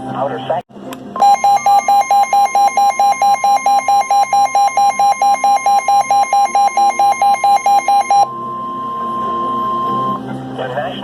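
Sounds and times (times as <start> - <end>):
rapid beeping alarm: 1.2 - 10.3
steady high attention tone: 1.2 - 10.3.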